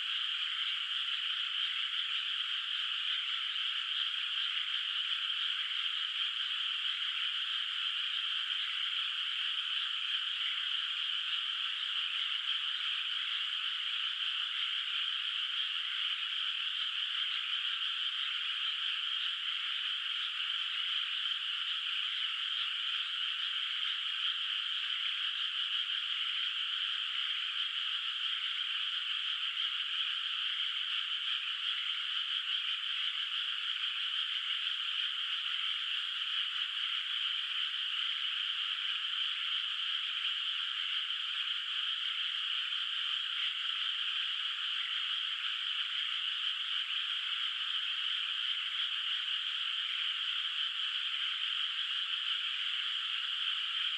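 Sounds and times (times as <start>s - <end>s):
chorus of frogs calling: 0.0s - 53.9s.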